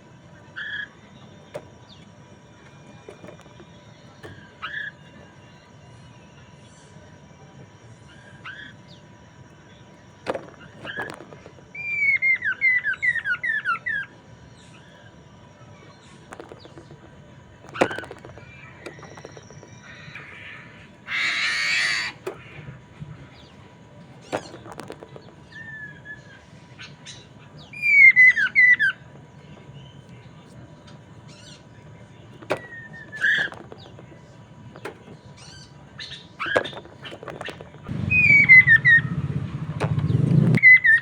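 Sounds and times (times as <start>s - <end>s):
songbird singing: 0.0s - 41.0s.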